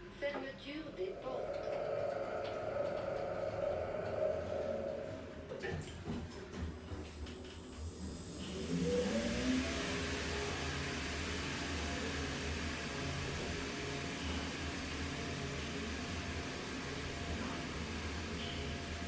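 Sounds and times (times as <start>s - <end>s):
elevator machine whining and humming: 0.2s - 19.0s.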